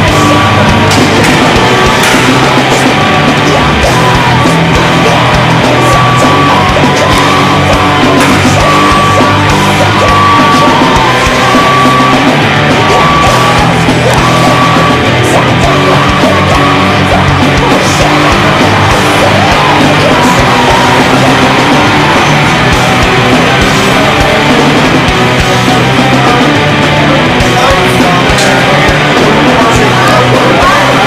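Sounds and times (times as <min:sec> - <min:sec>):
rock music with distorted guitars: 0:00.0 - 0:31.0.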